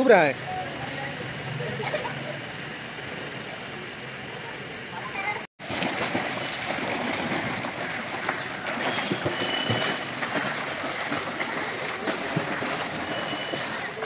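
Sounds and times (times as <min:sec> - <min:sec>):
water splashing in a pool: 0:00.0 - 0:14.0.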